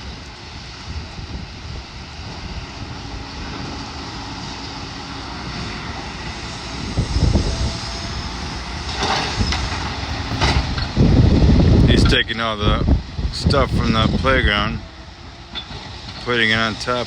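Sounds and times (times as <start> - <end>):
wind buffeting microphone: 0.0 - 16.5
excavator diesel engine drone: 0.0 - 17.0.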